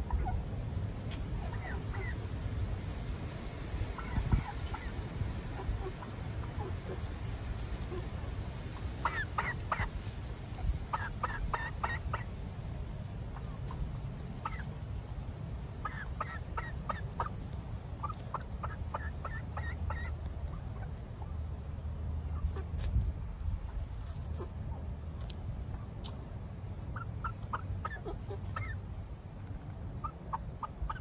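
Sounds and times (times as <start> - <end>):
hens clucking: 0.0 - 31.0.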